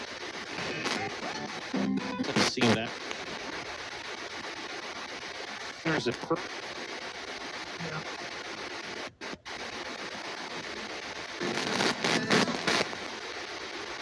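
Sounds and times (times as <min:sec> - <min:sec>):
choppy bursts of static: 0:00.0 - 0:14.0
radio static hiss: 0:00.0 - 0:14.0.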